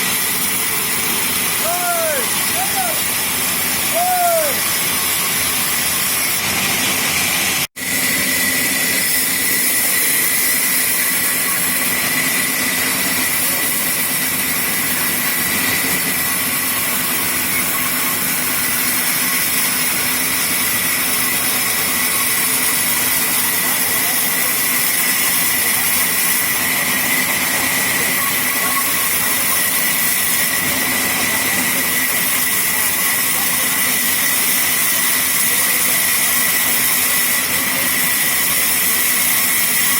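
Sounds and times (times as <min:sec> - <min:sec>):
sawmill machinery hiss and whine: 0:00.0 - 0:39.9.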